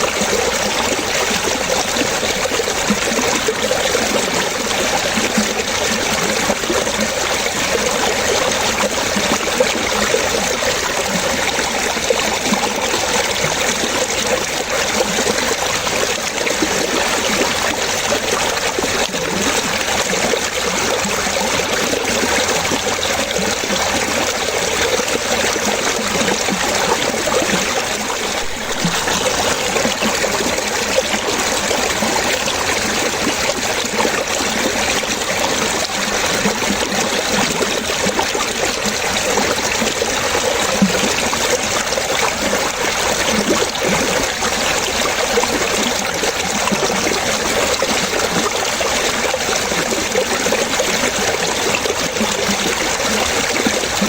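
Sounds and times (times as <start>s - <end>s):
running water splashing and trickling: 0.0s - 54.0s.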